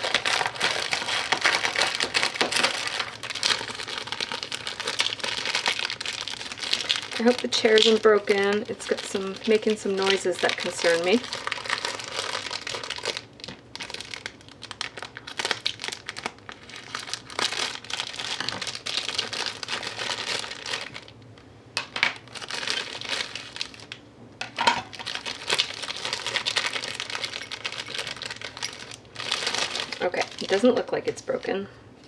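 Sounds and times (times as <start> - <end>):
plastic wrapping crinkling: 0.0 - 21.2, 21.8 - 31.6.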